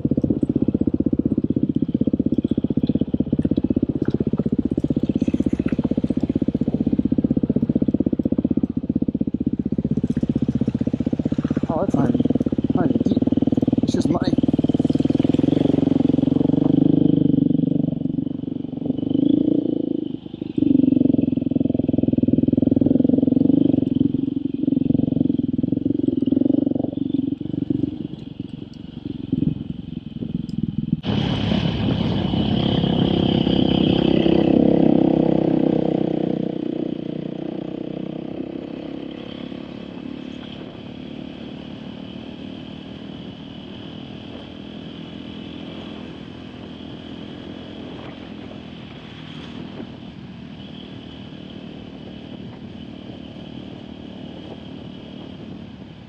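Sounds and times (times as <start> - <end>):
off-road motorcycle engine revving: 0.0 - 56.0.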